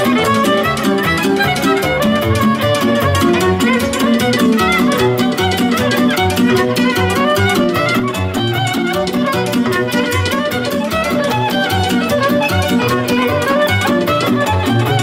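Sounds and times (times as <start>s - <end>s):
electronic keyboard backing: 0.0s - 15.0s
violin folk melody: 0.0s - 15.0s.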